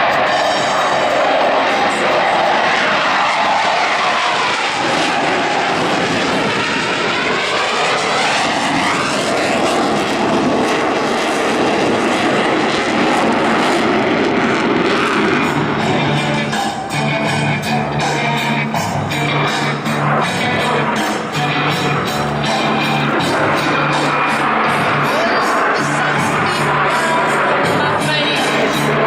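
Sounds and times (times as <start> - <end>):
jets flying past: 0.0 - 29.0.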